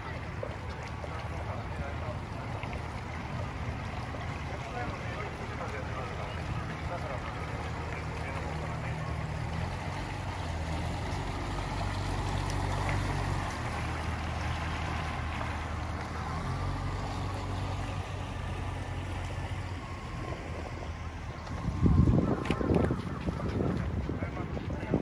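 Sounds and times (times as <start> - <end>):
water noise: 0.0 - 25.0.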